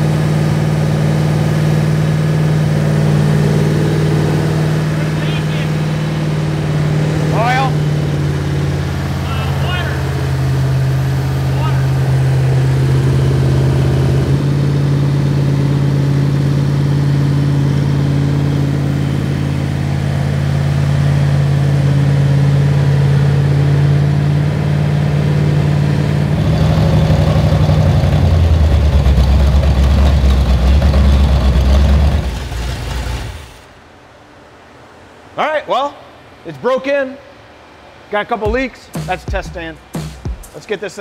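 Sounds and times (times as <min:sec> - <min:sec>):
car engine running: 0:00.0 - 0:33.6.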